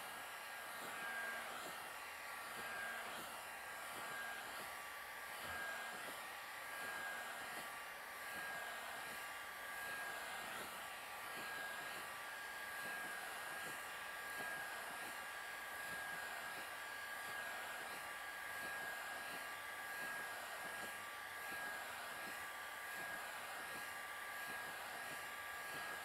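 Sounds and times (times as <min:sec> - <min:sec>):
heat gun blowing air: 0:00.0 - 0:26.0.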